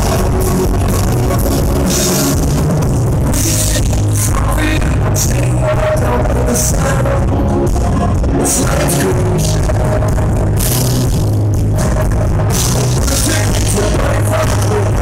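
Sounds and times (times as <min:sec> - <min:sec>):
drums: 0:00.0 - 0:15.0
electric guitar: 0:00.0 - 0:15.0
live rock band playing: 0:00.0 - 0:15.0.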